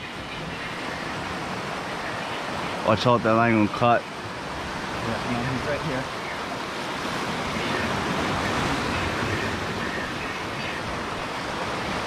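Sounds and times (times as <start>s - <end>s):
ocean surf over rocks: 0.0s - 12.0s.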